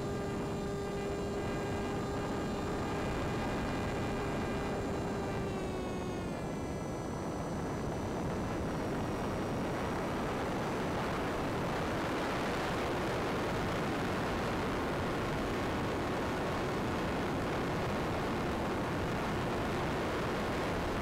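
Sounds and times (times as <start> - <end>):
electric motor whine: 0.0 - 21.0.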